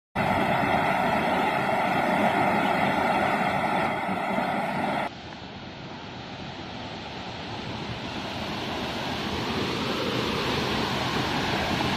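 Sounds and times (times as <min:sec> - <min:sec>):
quiet steady rushing noise: 0:00.2 - 0:11.9
waterfall roaring: 0:00.2 - 0:11.9.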